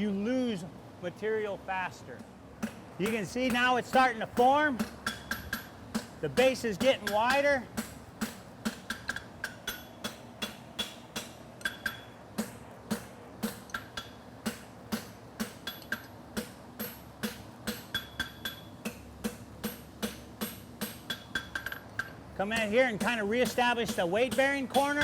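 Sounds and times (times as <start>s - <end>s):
hammer striking metal on anvil: 2.6s - 25.0s.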